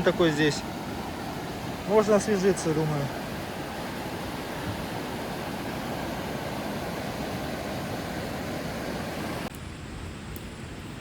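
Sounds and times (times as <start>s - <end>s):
stream rushing into rock pool: 0.0s - 9.5s.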